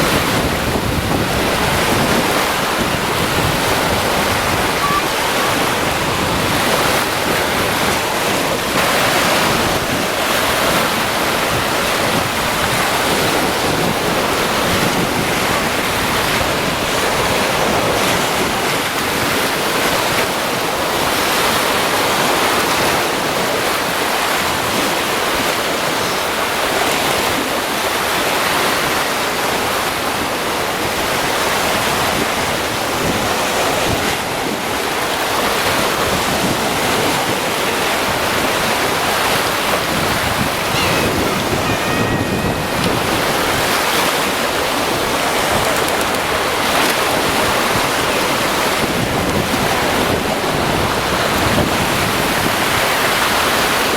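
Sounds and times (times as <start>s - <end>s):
waves breaking on shore: 0.0s - 53.9s.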